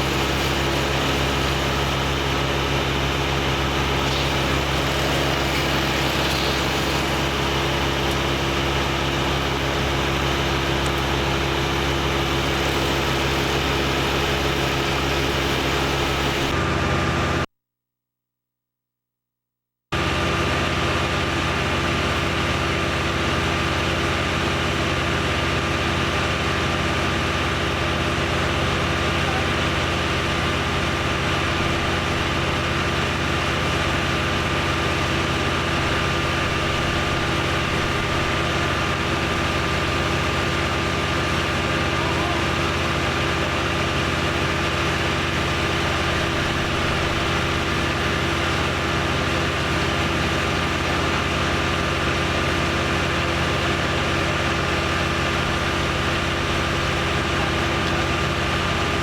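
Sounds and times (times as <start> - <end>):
engine idling: 0.0 - 16.6, 20.4 - 59.0.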